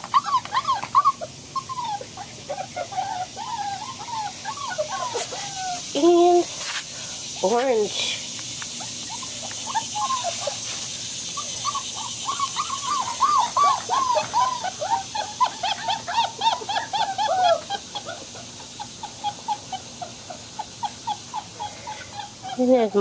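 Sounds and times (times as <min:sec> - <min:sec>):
puppies whining: 0:00.0 - 0:06.5, 0:08.7 - 0:23.0.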